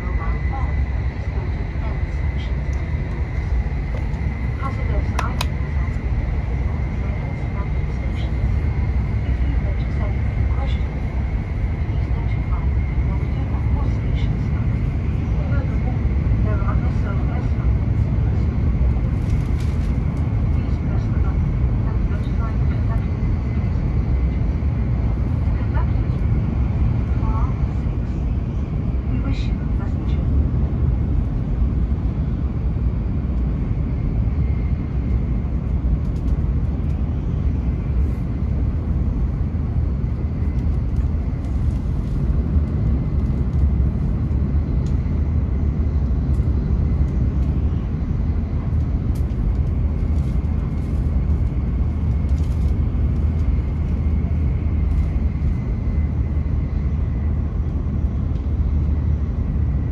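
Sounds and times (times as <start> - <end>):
train cabin deep rumble: 0.0 - 59.9.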